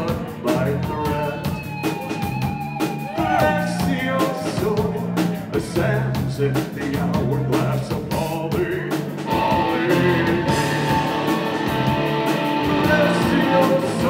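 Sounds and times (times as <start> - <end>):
person singing: 0.0 - 2.3, 3.0 - 14.0
electric guitar: 0.0 - 14.0
keyboard: 0.0 - 14.0
pounding drums: 0.0 - 14.0.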